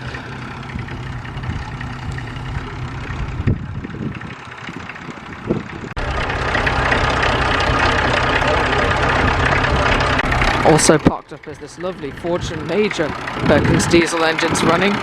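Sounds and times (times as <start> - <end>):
close diesel engine idling: 0.0 - 15.0
tractor engines idling: 0.0 - 15.0.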